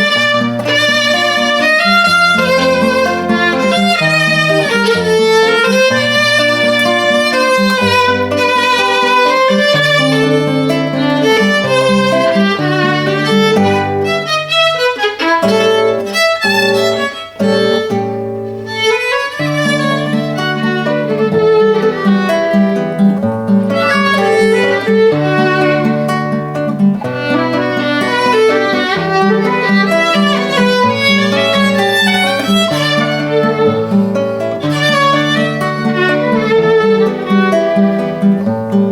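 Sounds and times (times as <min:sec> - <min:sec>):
low accompanying instrument: 0:00.0 - 0:38.9
violin playing a minuet: 0:00.0 - 0:38.9.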